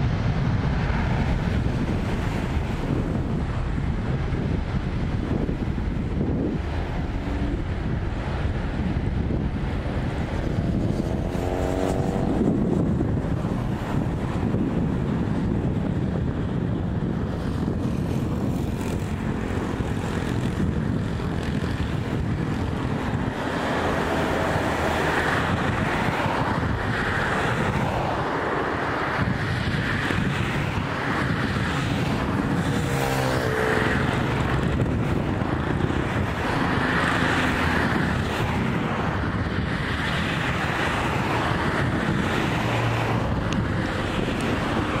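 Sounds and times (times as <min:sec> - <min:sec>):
jet engines at takeoff: 0:00.0 - 0:45.0
wind buffeting microphone: 0:00.0 - 0:45.0.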